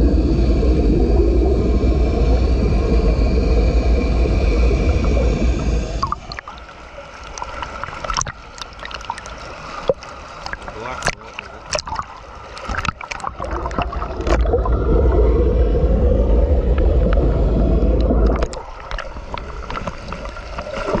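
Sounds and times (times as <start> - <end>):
underwater rush of pool jet: 0.0 - 21.0
pool water splashing: 3.9 - 21.0.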